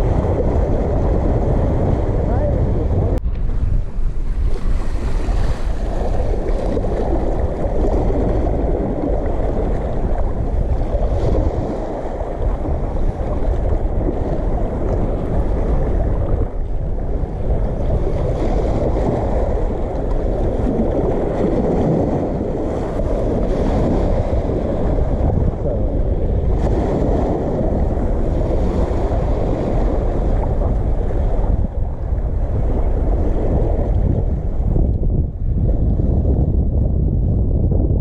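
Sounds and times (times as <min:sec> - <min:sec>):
water rushing: 0:00.0 - 0:34.8
wind buffeting microphone: 0:00.0 - 0:38.0.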